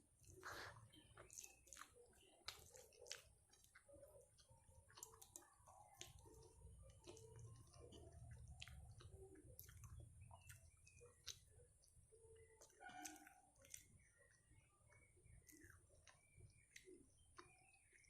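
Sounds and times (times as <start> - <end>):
close-up chewing with wet clicks: 0.0 - 18.0.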